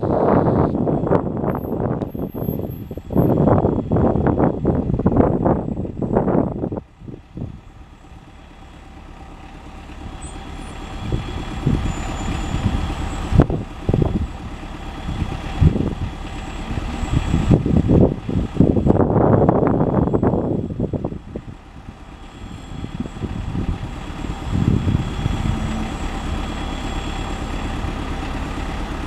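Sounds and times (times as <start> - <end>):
diesel locomotive engine: 0.0 - 29.0
low engine surges: 0.0 - 29.0.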